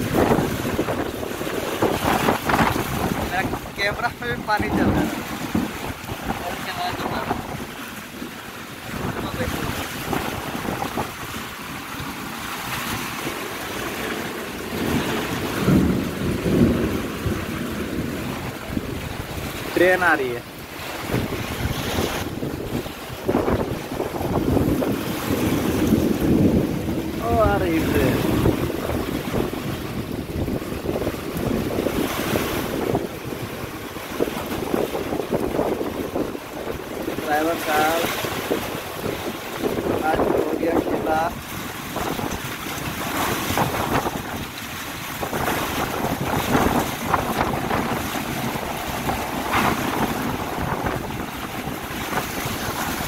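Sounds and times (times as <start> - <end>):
driving rain: 0.0 - 53.0
wind gusting on microphone: 0.0 - 53.0.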